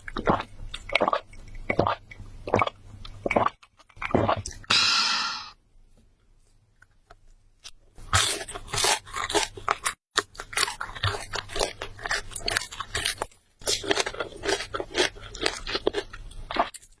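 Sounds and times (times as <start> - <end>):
person chewing and crunching food: 0.0 - 5.4, 6.4 - 17.0.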